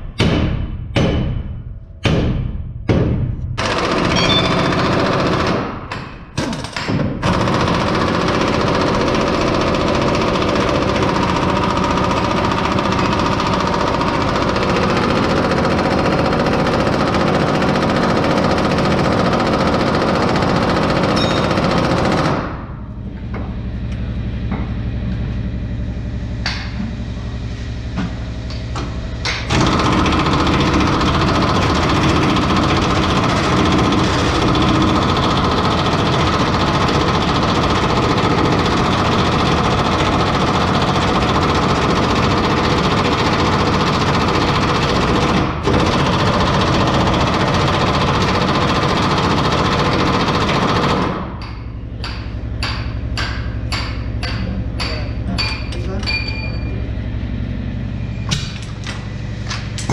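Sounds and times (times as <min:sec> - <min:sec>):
pneumatic air tool hammering: 0:00.0 - 0:22.6, 0:28.0 - 0:56.2, 0:58.3 - 0:59.9.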